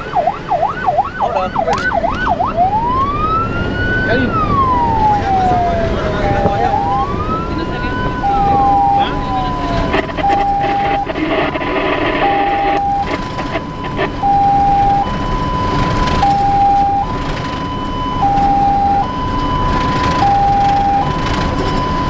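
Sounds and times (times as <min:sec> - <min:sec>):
truck engine and road noise: 0:00.0 - 0:22.0
two-tone siren: 0:00.0 - 0:22.0.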